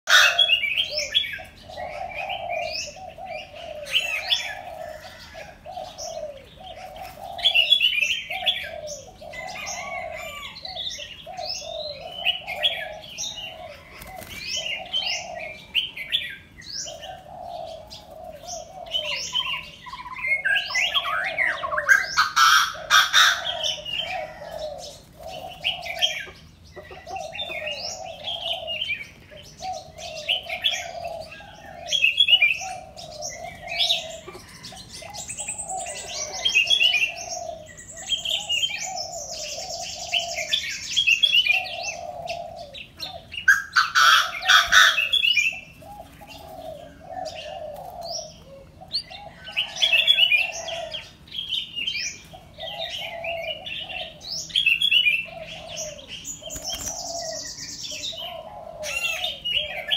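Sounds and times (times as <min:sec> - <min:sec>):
birds chirping and calling: 0:00.0 - 0:59.9
low repeated bird call: 0:00.0 - 0:59.9.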